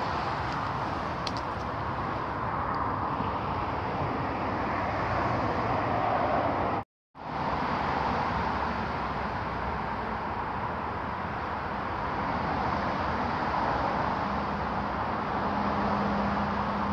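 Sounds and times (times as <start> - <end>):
road traffic hum: 0.0 - 16.9.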